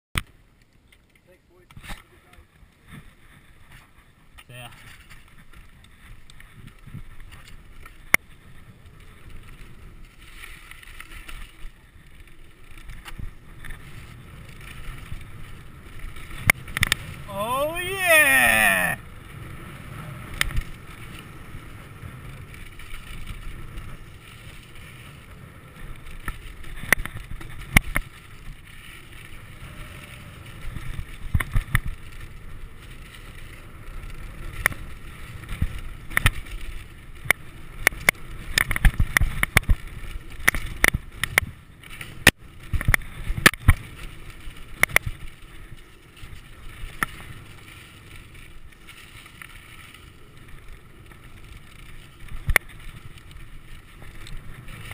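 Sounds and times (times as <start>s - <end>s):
bike rattling and clacking: 0.2s - 17.3s, 19.0s - 54.9s
bike tyres rumbling on dirt: 1.6s - 54.9s.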